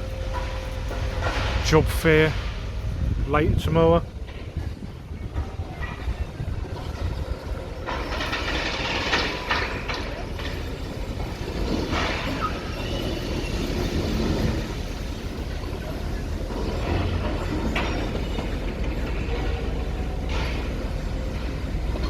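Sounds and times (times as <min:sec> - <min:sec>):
excavator rumbling: 0:00.0 - 0:22.0
debris clattering and crunching: 0:04.2 - 0:22.0.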